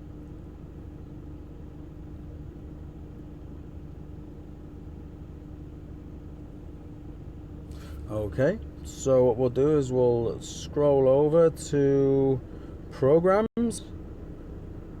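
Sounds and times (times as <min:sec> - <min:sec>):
constant droning tone: 0:00.0 - 0:15.0
low background hum and rumble: 0:00.0 - 0:15.0.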